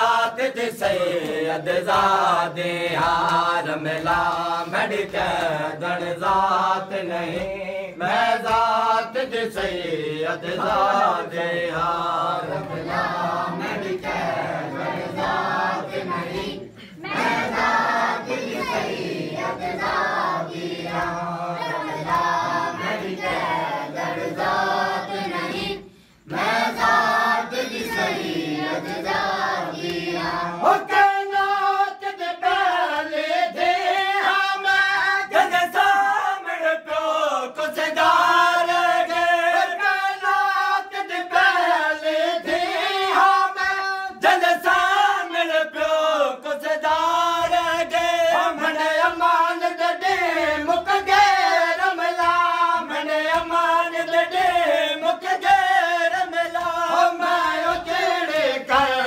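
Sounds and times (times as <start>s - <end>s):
group chanting a lament: 0.0s - 59.0s.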